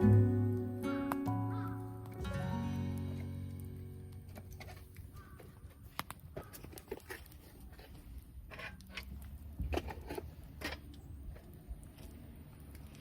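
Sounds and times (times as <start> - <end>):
campfire crackling: 0.0 - 9.6, 10.2 - 13.0.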